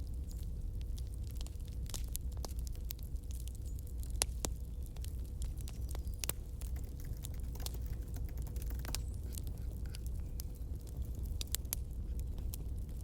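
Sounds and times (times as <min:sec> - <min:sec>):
campfire crackling and popping: 0:00.0 - 0:13.0
low rumble of burning fire: 0:00.0 - 0:13.0.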